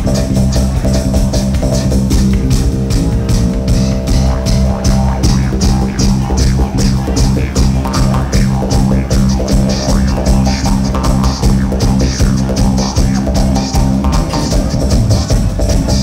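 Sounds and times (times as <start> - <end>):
crisp high ticking beat: 0.0 - 16.0
deep bass drone: 0.0 - 16.0.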